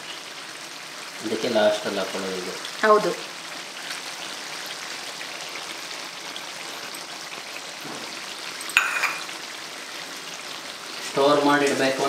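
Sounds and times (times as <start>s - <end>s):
gravy sizzling in oil: 0.0s - 12.0s.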